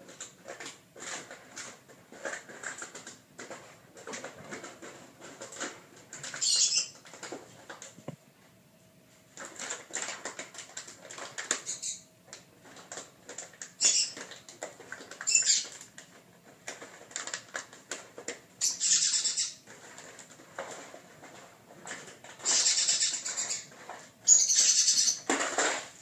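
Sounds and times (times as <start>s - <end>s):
puppy claws pattering on tile: 0.0s - 8.2s, 9.4s - 25.8s.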